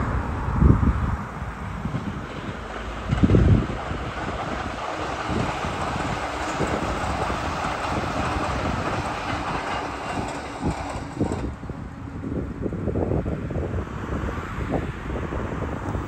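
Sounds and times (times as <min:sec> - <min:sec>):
electric train running past: 0:00.0 - 0:14.2
wind noise: 0:00.0 - 0:16.0.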